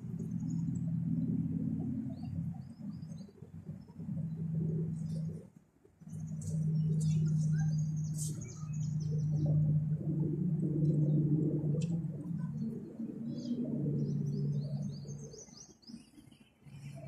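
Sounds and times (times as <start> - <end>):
low steady hum: 0.0 - 17.0
small birds chirping: 2.0 - 17.0.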